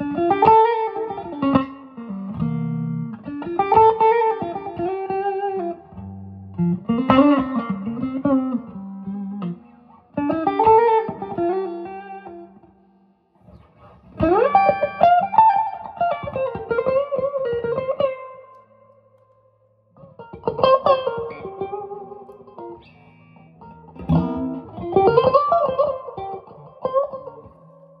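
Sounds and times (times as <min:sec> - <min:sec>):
electric guitar lead phrases: 0:00.0 - 0:28.0.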